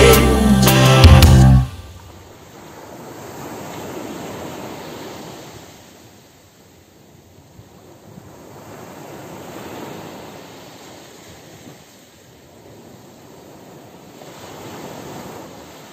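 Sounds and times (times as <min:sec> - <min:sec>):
surf washing up on beach: 0:01.7 - 0:06.4, 0:07.8 - 0:15.9.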